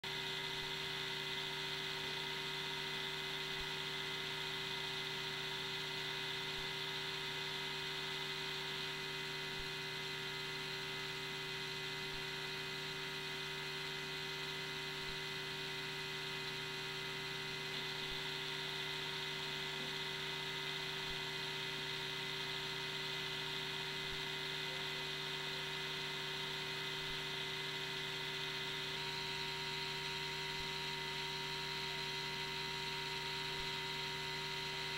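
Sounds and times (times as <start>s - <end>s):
electrical hum with whine and hiss: 0.0s - 34.9s.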